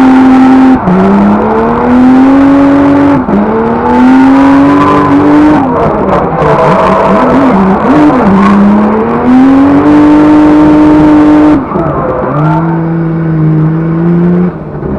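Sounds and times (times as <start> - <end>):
race car engine revving: 0.0 - 14.9.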